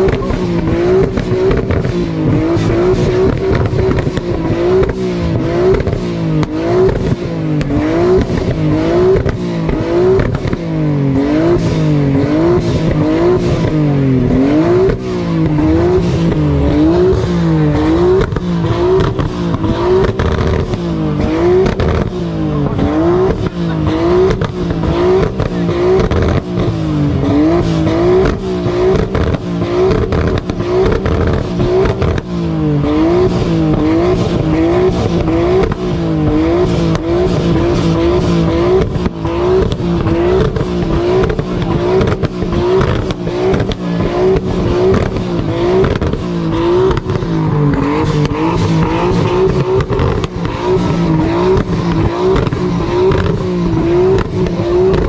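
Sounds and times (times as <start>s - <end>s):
car engine revving: 0.0s - 55.0s
exhaust pops crackling: 0.0s - 55.0s.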